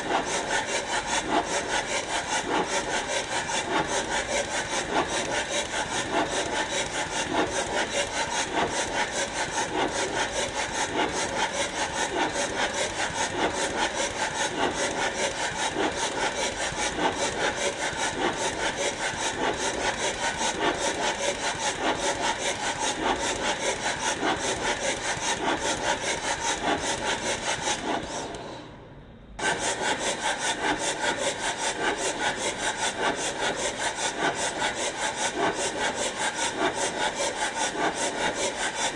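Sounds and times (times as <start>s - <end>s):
rapid scraping strokes: 0.0s - 28.6s, 29.4s - 38.9s.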